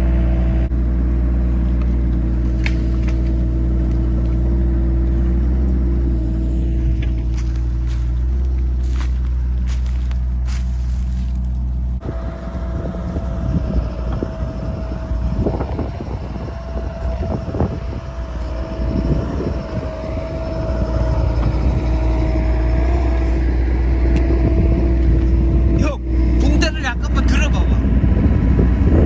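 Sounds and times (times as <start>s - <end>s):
excavator diesel engine running: 0.0s - 29.0s
hydraulic whine: 0.0s - 29.0s.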